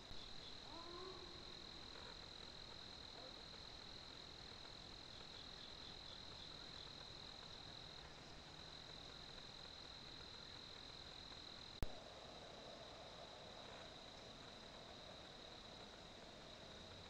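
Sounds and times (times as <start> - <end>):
faint hiss: 0.0 - 17.0
insects trilling: 0.0 - 17.0.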